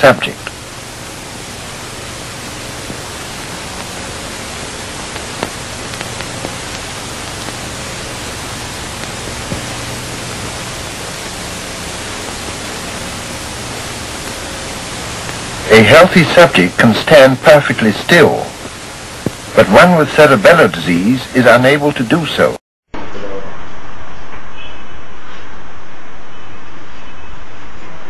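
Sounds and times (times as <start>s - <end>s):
low hum: 0.0s - 21.7s, 22.9s - 28.0s
film soundtrack hiss: 0.0s - 28.0s.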